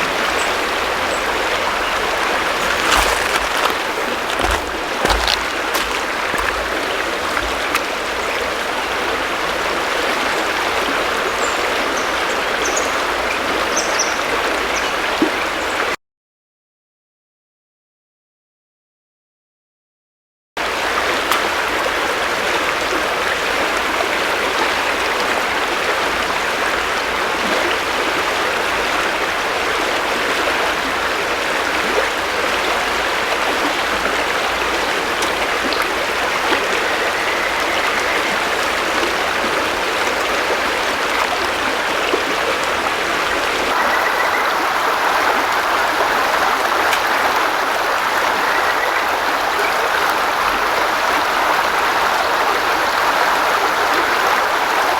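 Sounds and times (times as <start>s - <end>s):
river flowing over stones: 0.0s - 12.6s, 20.7s - 54.9s.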